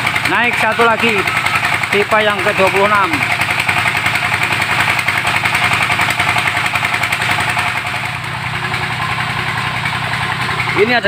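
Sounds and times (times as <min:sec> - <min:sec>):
small diesel engine running: 0:00.0 - 0:11.0.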